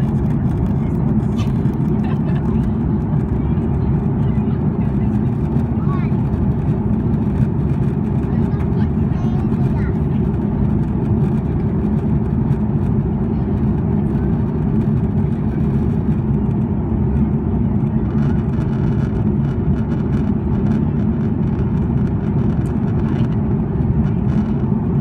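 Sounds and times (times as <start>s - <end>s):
aircraft cabin engine drone: 0.0s - 25.0s.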